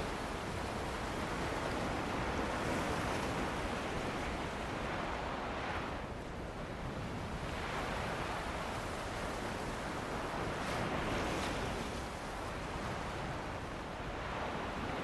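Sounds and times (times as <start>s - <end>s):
ocean waves on a beach: 0.0s - 15.0s
wind: 0.0s - 15.0s.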